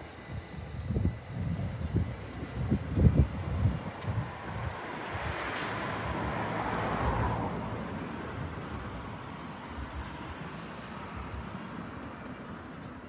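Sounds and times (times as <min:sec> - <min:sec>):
distant train passing: 0:00.0 - 0:13.0
wind buffeting microphone: 0:00.0 - 0:13.0.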